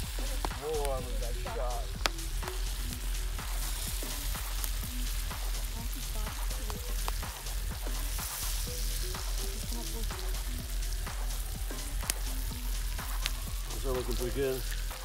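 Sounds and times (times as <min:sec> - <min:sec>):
liver sizzling in a skillet: 0:00.0 - 0:15.0.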